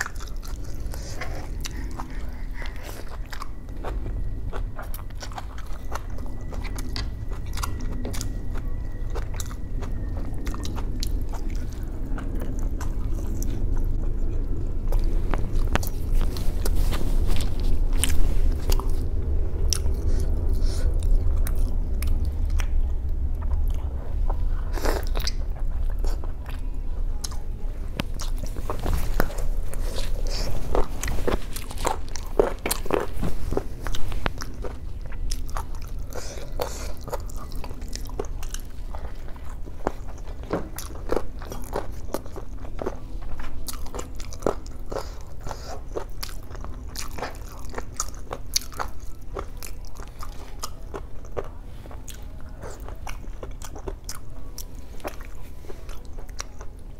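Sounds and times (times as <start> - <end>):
low hum: 0.0 - 56.9
person chewing food: 0.0 - 56.9.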